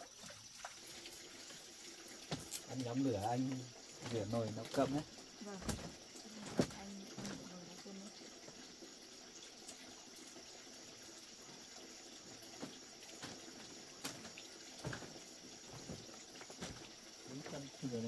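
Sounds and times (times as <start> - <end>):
water sloshing and pouring: 0.0 - 18.0.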